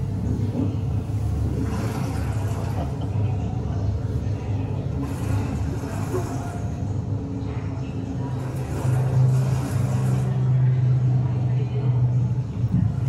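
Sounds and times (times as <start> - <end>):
faint voices: 0.0 - 13.0
steady low rumble: 0.0 - 13.0.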